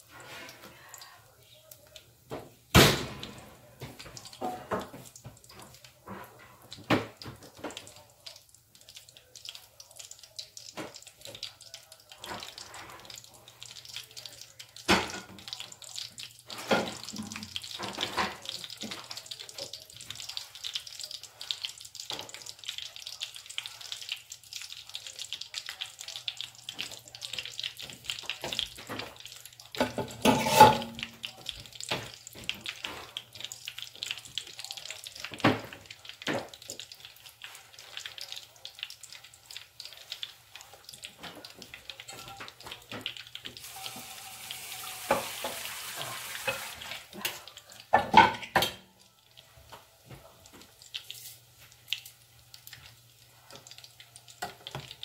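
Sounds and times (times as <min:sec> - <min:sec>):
oil sizzling while deep-frying: 0:00.0 - 0:55.0.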